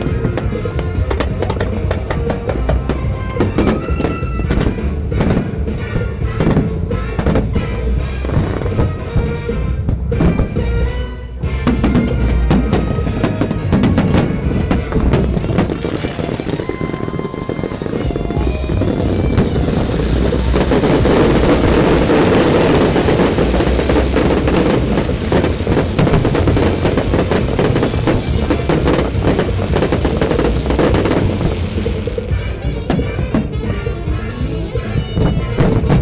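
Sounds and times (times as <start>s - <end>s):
big band jazz music: 0.0s - 16.9s, 17.8s - 36.0s
fireworks bursts and crackling: 0.0s - 36.0s.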